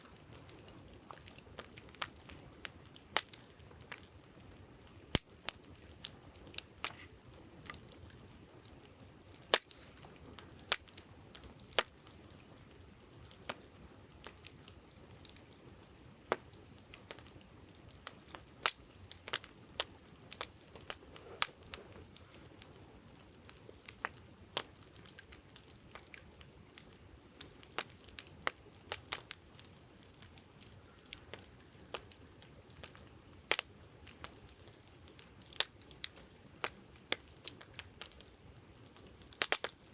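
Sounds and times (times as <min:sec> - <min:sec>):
campfire crackling and popping: 0:00.0 - 0:39.9
faint steady hiss: 0:00.0 - 0:39.9.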